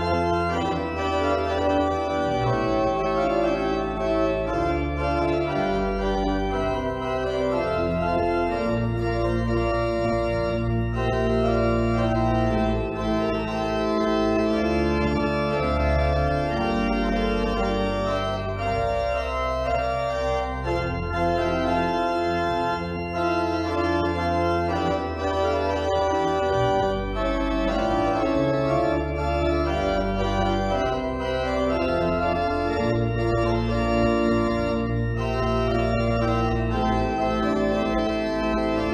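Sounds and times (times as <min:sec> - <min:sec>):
organ playing chords: 0:00.0 - 0:38.9.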